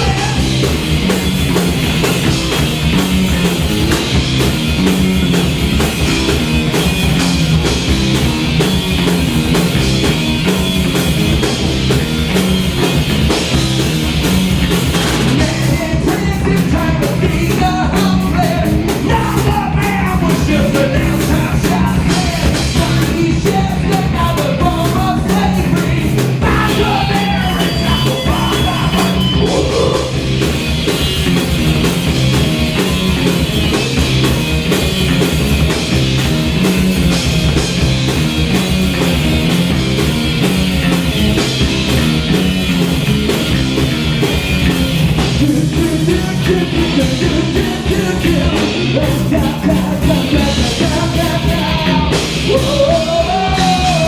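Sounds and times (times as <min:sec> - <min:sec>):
heavy rock band playing: 0:00.0 - 0:54.0.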